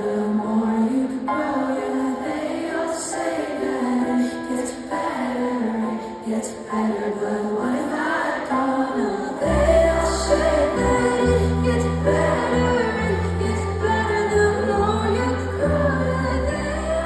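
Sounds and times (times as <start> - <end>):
crowd singing along: 0.0 - 17.0
keyboard chords: 0.0 - 17.0
woman singing: 0.0 - 17.0.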